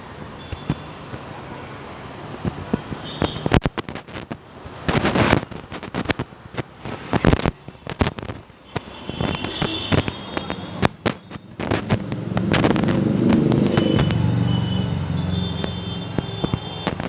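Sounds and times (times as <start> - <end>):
firecrackers banging and crackling: 2.4 - 14.6, 15.4 - 17.0.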